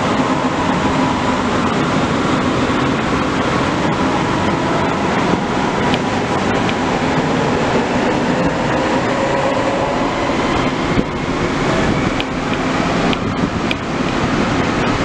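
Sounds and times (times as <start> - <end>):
electric traction whine: 0.0 - 15.0
train wheels rumbling on rail: 0.0 - 15.0.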